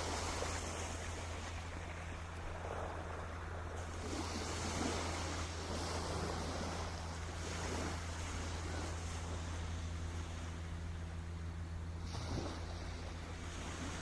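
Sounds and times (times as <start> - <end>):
sea waves washing on shore: 0.0 - 14.0
steady low hum: 0.0 - 14.0.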